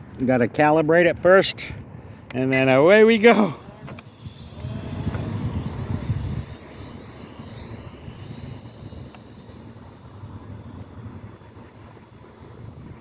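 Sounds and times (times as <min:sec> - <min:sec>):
wind buffeting microphone: 0:00.0 - 0:13.0
drone motors whining: 0:02.2 - 0:13.0.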